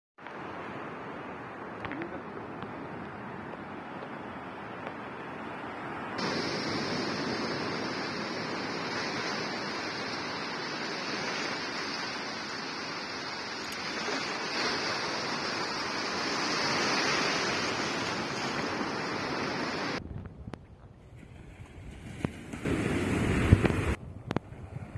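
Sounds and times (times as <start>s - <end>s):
sea surf on sandy beach: 0.2s - 20.0s, 21.0s - 24.9s.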